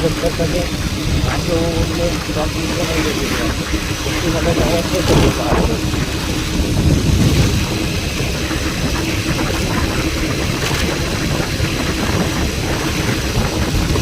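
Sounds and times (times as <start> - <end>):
engine and road rumble: 0.0 - 14.0
wind hiss: 0.0 - 14.0.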